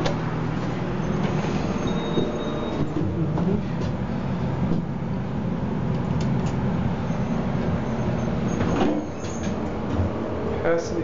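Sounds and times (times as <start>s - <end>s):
elevator low rumble: 0.0s - 11.0s.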